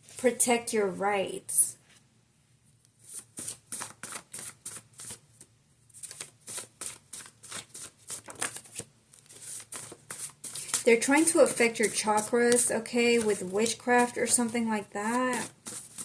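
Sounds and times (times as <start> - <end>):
cards being shuffled: 3.0 - 16.0.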